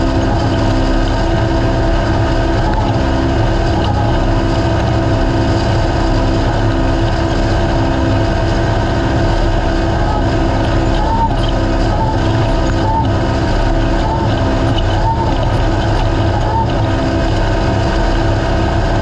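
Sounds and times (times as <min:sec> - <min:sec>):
race car engine droning: 0:00.0 - 0:19.0.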